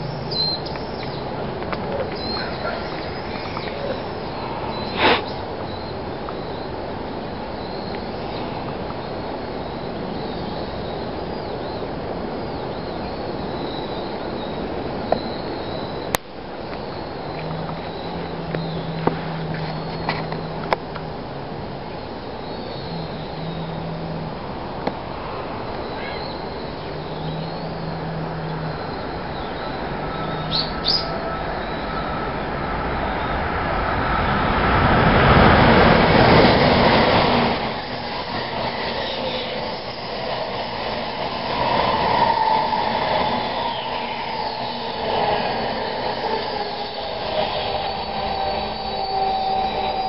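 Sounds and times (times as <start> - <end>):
high-pitched whine: 0.0 - 50.0
high-speed train rushing past: 0.0 - 50.0.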